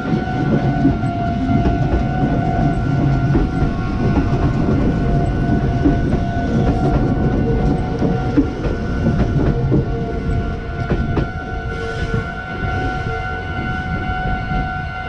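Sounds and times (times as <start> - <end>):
train wheels clattering: 0.0 - 12.8
crossing warning bell ringing: 0.0 - 15.0.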